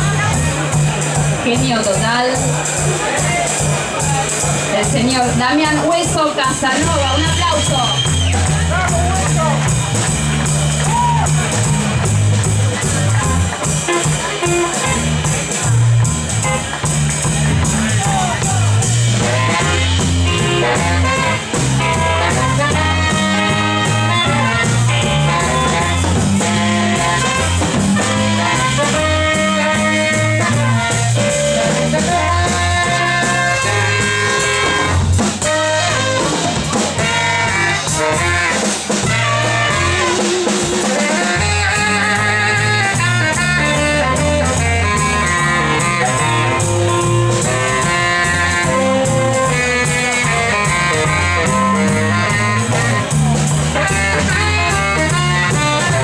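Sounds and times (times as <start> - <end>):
bass line: 0.0 - 56.0
drum kit: 0.0 - 56.0
horn melody: 0.0 - 56.0.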